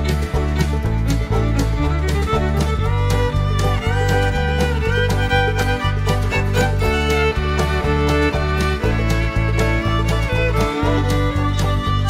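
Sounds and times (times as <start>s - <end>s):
fiddle music with bass and beat: 0.0s - 12.0s.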